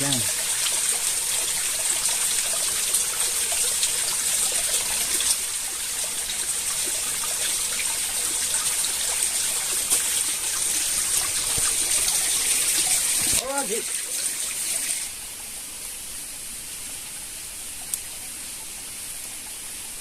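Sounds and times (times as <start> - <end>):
stream water over rocks: 0.0 - 20.0.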